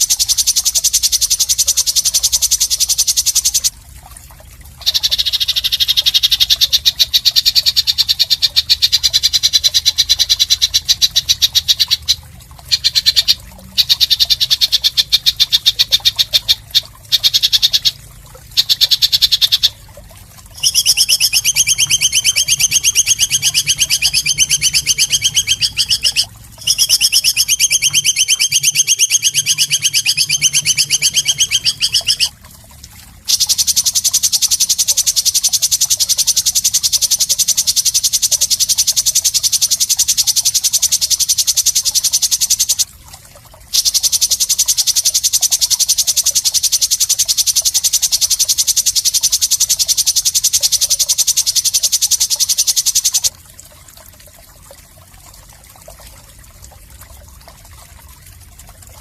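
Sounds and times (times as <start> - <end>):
bird rapid pulsing buzz: 0.0 - 3.7, 4.8 - 32.3, 33.3 - 42.8, 43.7 - 53.3.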